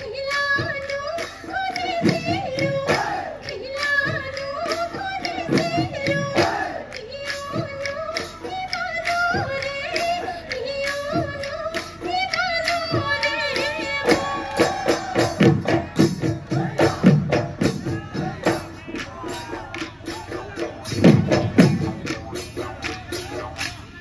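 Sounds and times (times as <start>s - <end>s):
dhol drums beaten fast: 0.0s - 24.0s.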